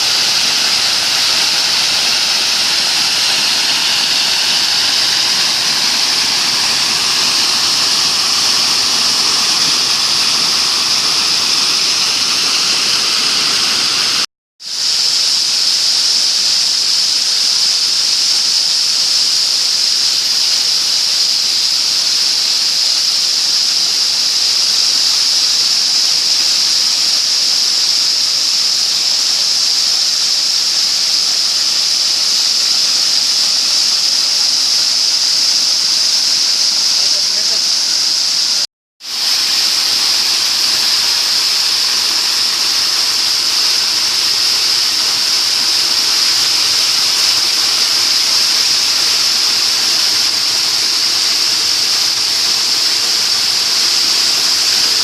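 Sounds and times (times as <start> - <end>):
waterfall rushing: 0.0 - 16.1, 24.0 - 55.0.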